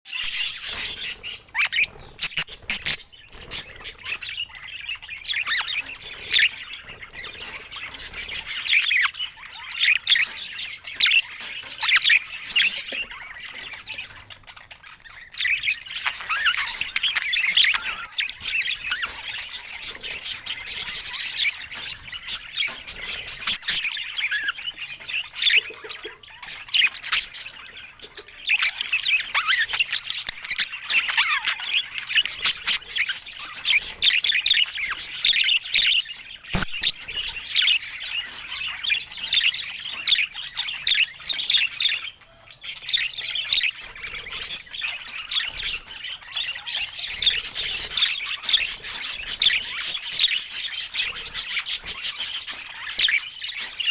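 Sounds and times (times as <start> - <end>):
budgerigars chattering: 0.1 - 53.9.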